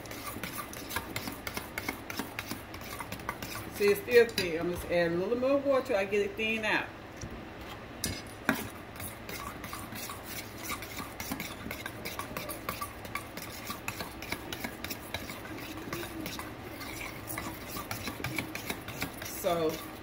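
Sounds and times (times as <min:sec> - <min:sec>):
metal spoon stirring in bowl: 0:00.0 - 0:05.0, 0:08.0 - 0:20.0.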